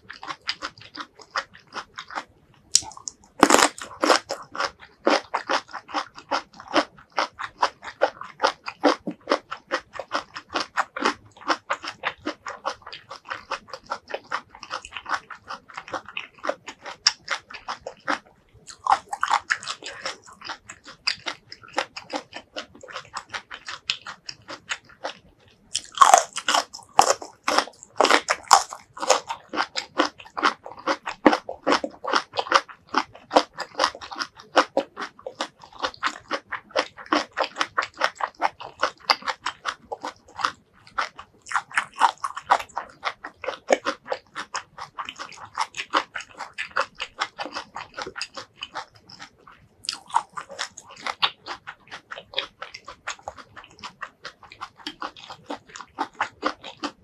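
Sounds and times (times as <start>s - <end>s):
biting and chewing crisp food: 0.0s - 57.0s.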